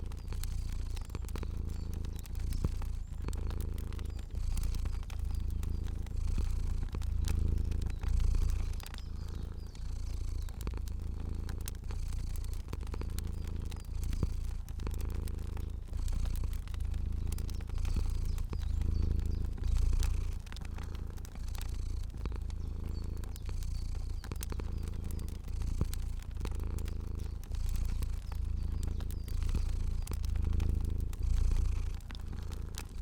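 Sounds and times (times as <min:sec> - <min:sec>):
cat purring: 0:00.0 - 0:33.0
fire crackling: 0:00.0 - 0:33.0.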